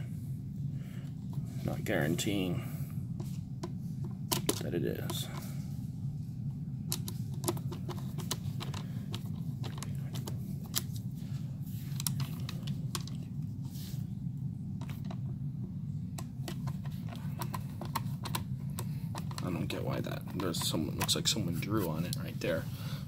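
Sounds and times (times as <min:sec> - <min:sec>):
steady low hum: 0:00.0 - 0:23.0
handling clicks and rustles: 0:01.1 - 0:05.6, 0:06.8 - 0:13.7, 0:14.7 - 0:22.6.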